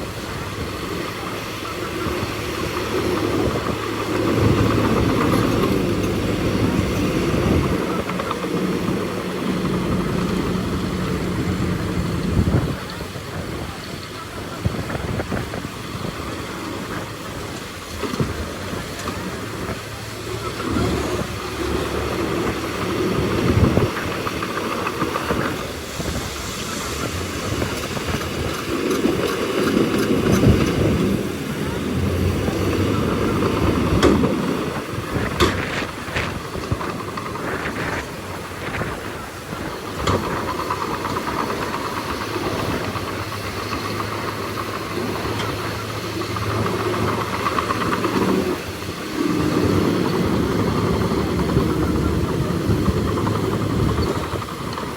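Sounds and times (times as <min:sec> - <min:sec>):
bulldozer diesel engine working: 0:00.0 - 0:54.9.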